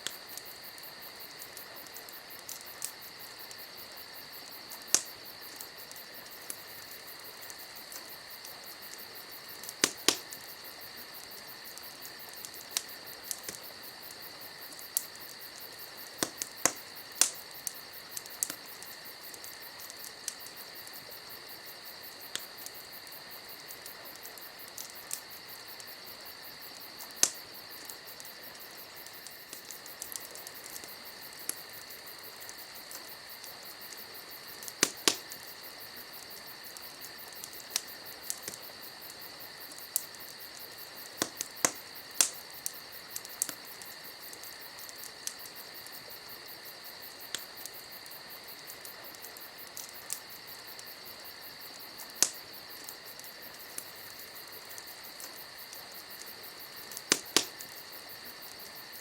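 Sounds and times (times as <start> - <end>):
campfire popping and crackling: 0.0 - 59.0
crickets trilling: 0.0 - 59.0.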